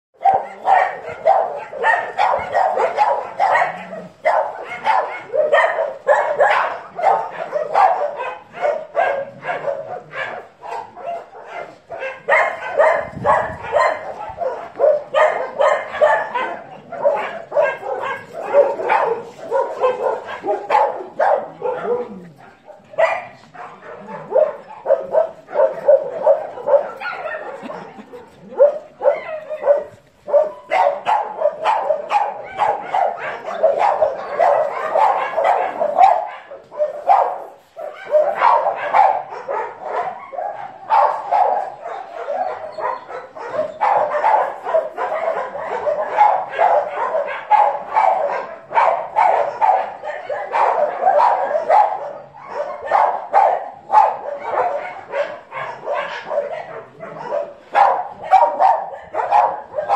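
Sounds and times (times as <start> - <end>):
pack of dogs barking: 0.2 - 59.9.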